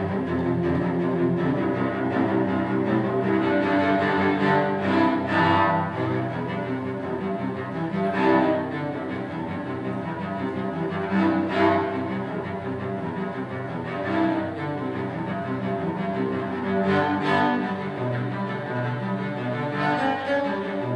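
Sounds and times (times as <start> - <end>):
bowed cello melody: 0.0 - 20.9.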